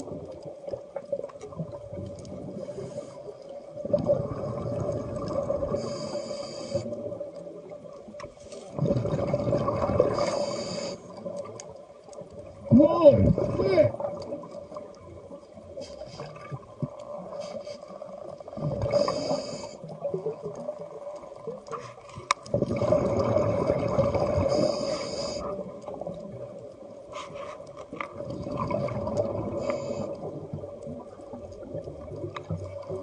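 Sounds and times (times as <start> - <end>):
water sloshing and gurgling: 0.0 - 33.0.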